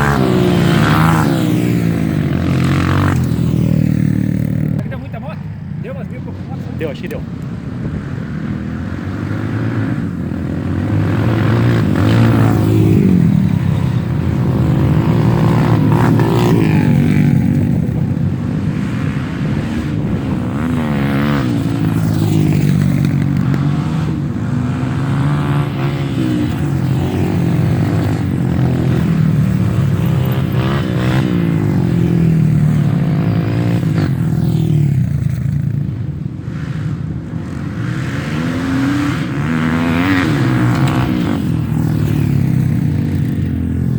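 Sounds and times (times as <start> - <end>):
motorcycles revving: 0.0 - 43.9.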